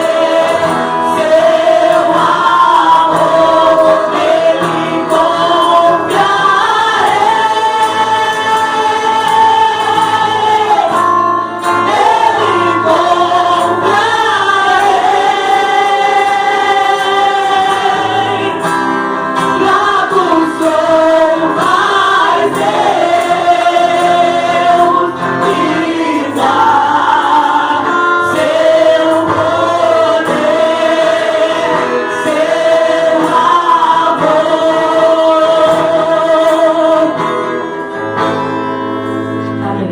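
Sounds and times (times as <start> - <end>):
choir singing gospel music: 0.0 - 39.8
musical accompaniment: 0.0 - 39.9.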